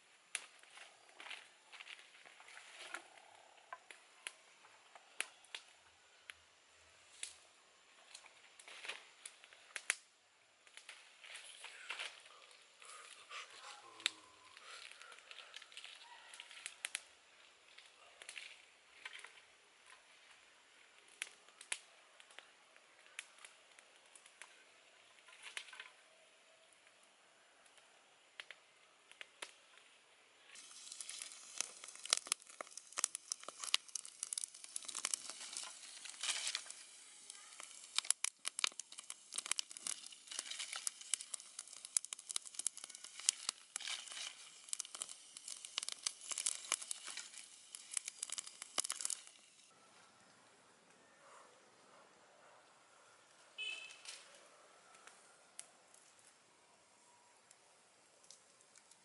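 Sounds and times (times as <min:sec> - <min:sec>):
wood fire crackling and popping: 0:00.0 - 0:49.8, 0:54.9 - 0:56.5, 0:57.4 - 0:59.0.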